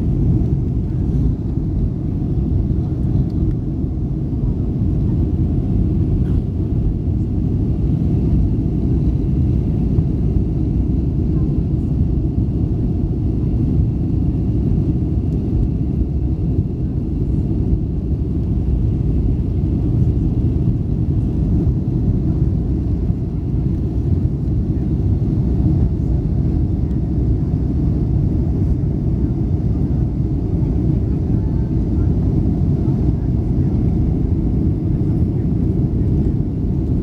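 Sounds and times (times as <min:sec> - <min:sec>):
jet engine rumble: 0:00.0 - 0:37.0.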